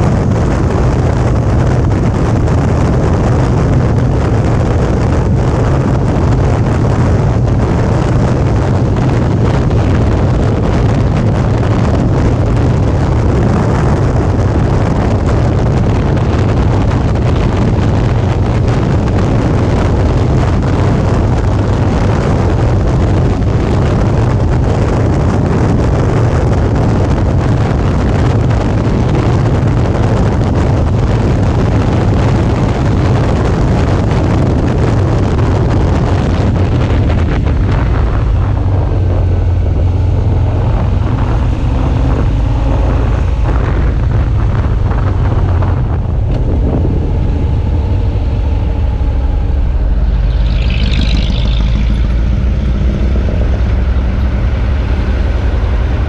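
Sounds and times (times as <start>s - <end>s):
motorcycle engine rumble: 0.0s - 56.0s
wind rushing over microphone: 0.0s - 56.0s.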